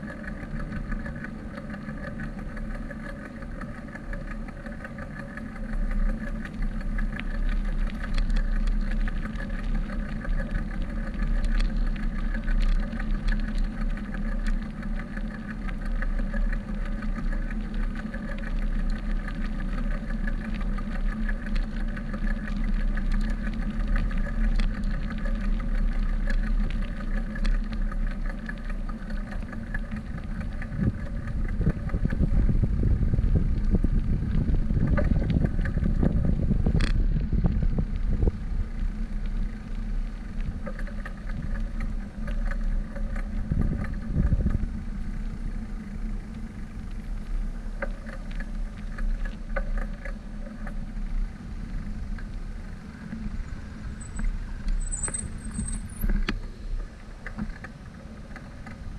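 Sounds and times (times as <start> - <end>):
bike clicks and rattles: 0.0 - 58.9
steady hum: 0.0 - 58.9
wind and tyre rumble: 0.0 - 58.9.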